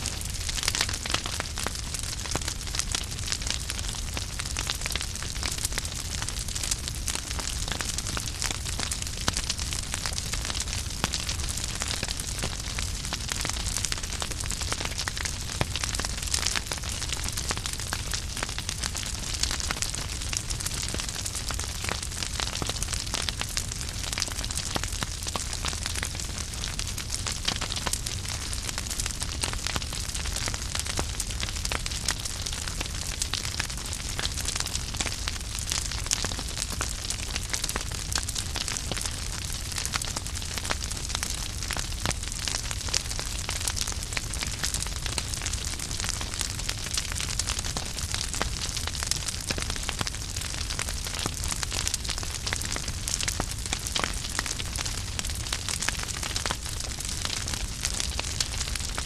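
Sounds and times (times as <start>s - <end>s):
flames hissing and rumbling: 0.0s - 59.0s
logs crackling and popping: 0.0s - 59.0s.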